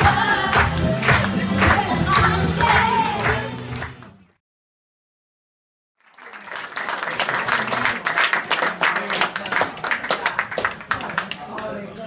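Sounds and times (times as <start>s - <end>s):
audience applauding: 0.0s - 4.3s, 6.0s - 11.8s.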